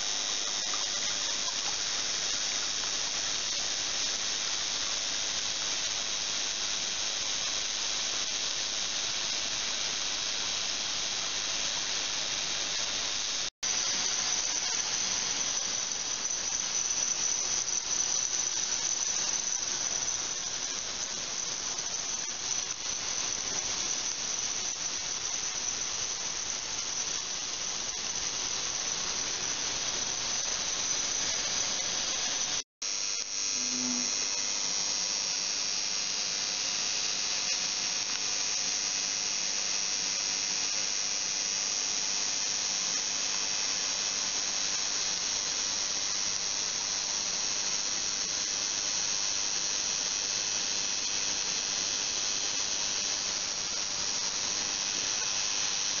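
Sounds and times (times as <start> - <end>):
ultrasonic cleaner hissing whine: 0.0 - 56.0.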